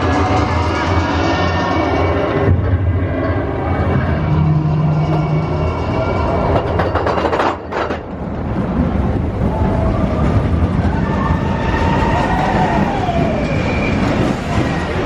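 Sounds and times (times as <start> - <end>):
roller coaster wheels on rail: 0.0 - 15.0.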